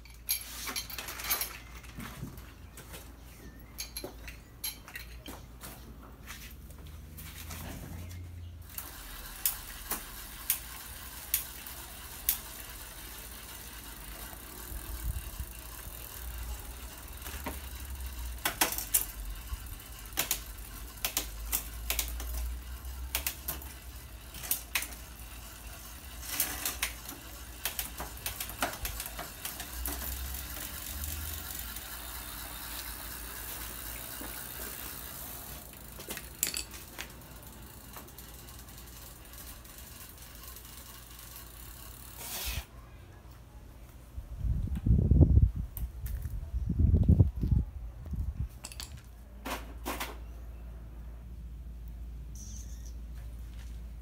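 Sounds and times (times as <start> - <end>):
tools clicking and rattling on bike: 0.0 - 5.8, 6.7 - 42.6, 48.1 - 50.3.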